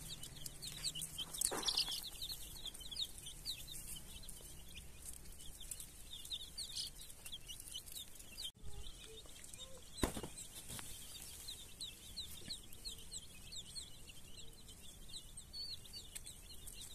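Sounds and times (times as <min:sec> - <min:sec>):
chicks peeping: 0:00.0 - 0:16.9.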